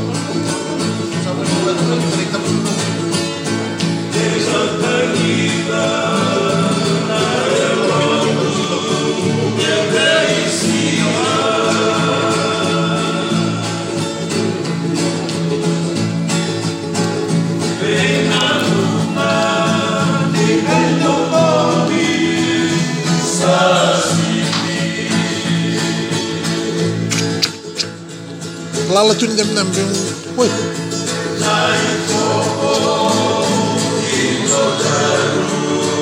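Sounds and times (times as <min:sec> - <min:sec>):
people singing together: 0:00.0 - 0:28.1, 0:30.8 - 0:36.0
strummed acoustic guitar: 0:00.0 - 0:36.0.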